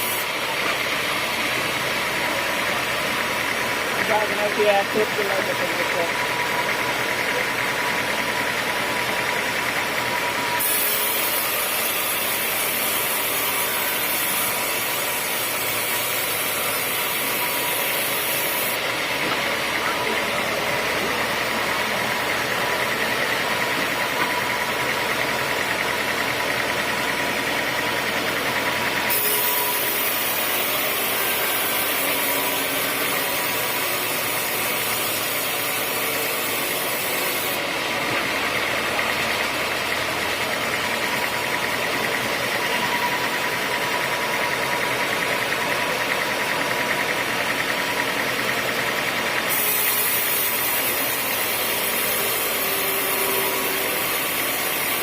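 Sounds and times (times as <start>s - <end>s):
sawmill machinery with whine: 0.0s - 55.0s.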